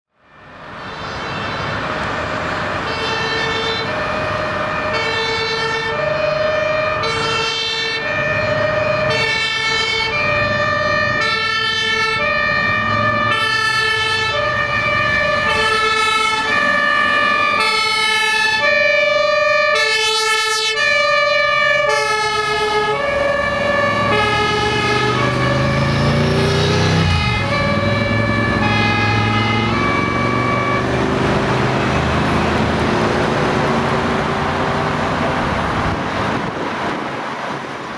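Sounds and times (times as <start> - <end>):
two-tone siren horn: 0.1 - 34.1
traffic: 0.1 - 37.9
truck engines rumbling: 0.1 - 37.9.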